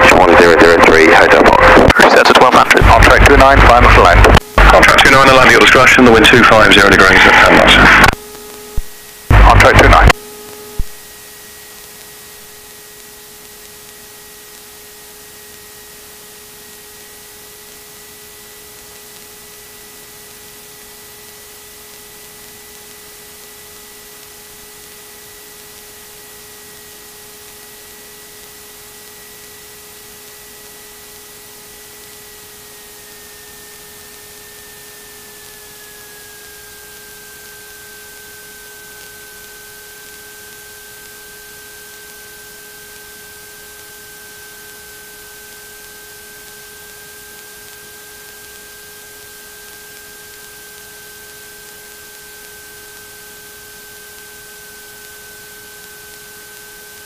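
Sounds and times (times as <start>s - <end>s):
thin high whine: 0.0s - 18.0s, 22.8s - 57.0s
radio static hiss: 0.0s - 57.0s.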